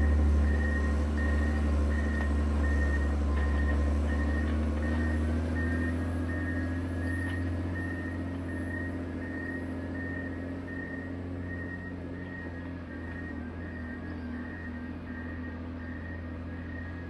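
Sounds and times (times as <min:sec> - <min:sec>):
grader diesel engine running: 0:00.0 - 0:17.0
reversing alarm beeps: 0:00.0 - 0:17.0.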